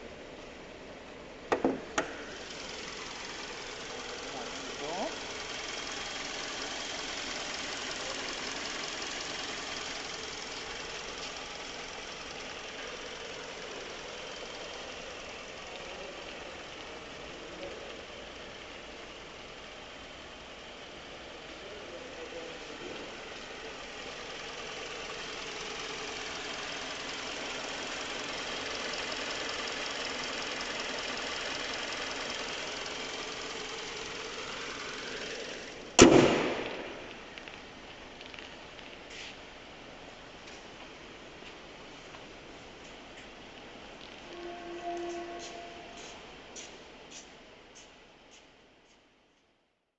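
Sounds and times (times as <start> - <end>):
car engine idling: 0.0 - 49.3.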